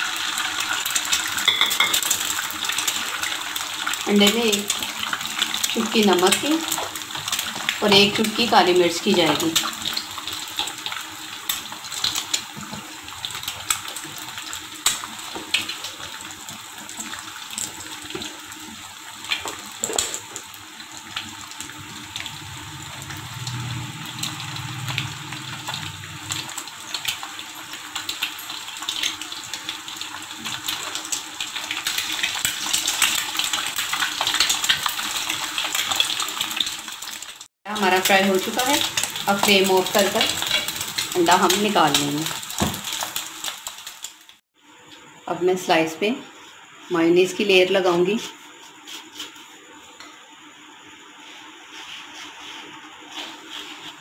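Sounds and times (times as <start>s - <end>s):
egg sizzling in hot oil: 0.0s - 44.4s, 48.1s - 54.0s.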